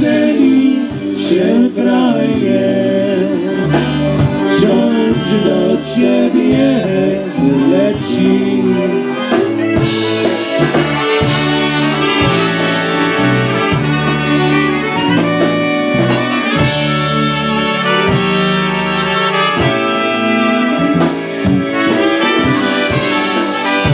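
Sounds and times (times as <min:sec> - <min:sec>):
polka band playing: 0:00.0 - 0:23.9
trumpets playing melody: 0:00.0 - 0:23.9.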